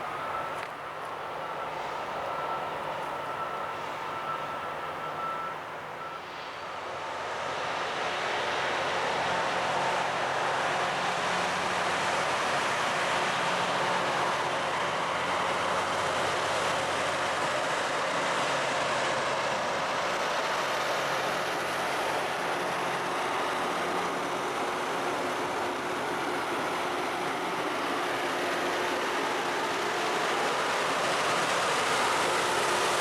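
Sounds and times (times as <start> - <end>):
rail grinder train rushing: 0.0 - 33.0.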